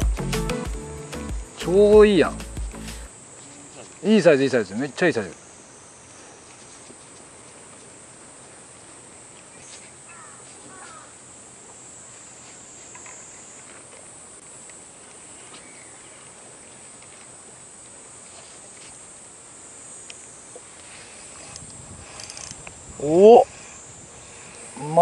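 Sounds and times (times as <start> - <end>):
high-pitched insect buzz: 0.0 - 4.0, 4.8 - 7.2, 9.6 - 17.2, 18.1 - 25.0.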